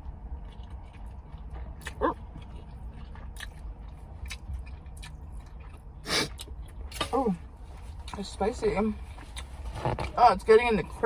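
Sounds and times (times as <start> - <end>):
chewing and mouth sounds: 0.0 - 10.2
steady low rumble: 0.0 - 11.0.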